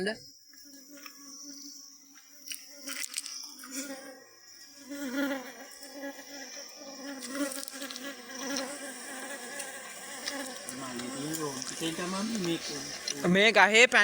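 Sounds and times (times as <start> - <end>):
bees buzzing: 0.8 - 14.0.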